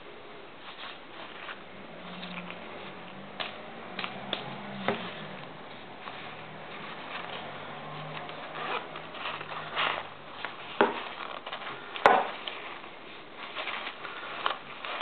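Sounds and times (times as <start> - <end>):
phone pouch rustling: 0.6 - 4.1, 4.8 - 15.0.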